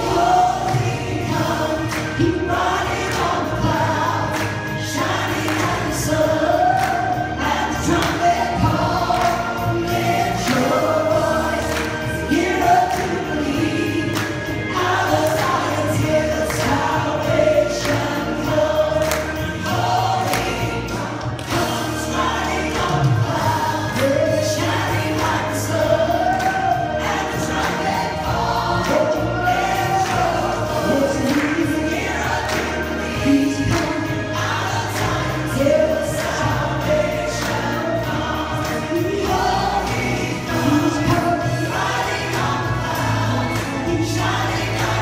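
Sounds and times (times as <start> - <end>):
group singing gospel song: 0.0 - 45.0
instrumental accompaniment with bass: 0.0 - 45.0.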